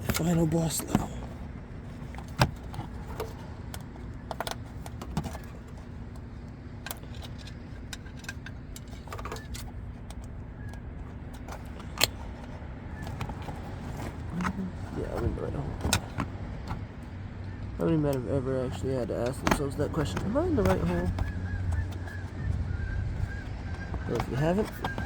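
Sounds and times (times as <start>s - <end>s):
plastic and metal parts clicking: 0.0s - 25.0s
steady low hum: 0.0s - 25.0s.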